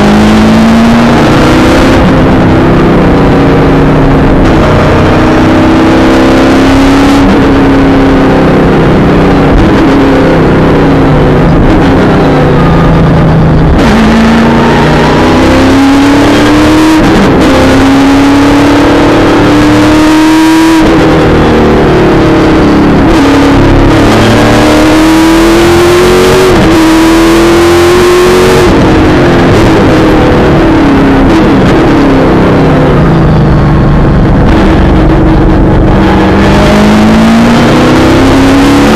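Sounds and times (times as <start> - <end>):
racing car engine revving: 0.0 - 38.9.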